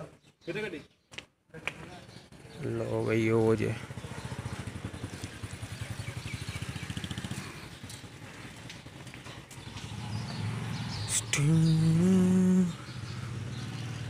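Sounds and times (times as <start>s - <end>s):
motorcycle engine running: 2.3s - 14.0s.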